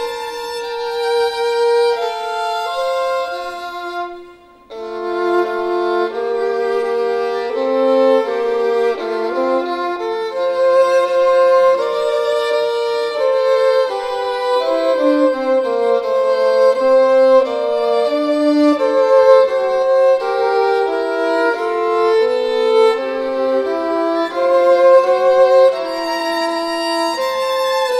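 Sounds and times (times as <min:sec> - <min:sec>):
two violins playing a duet: 0:00.0 - 0:27.9.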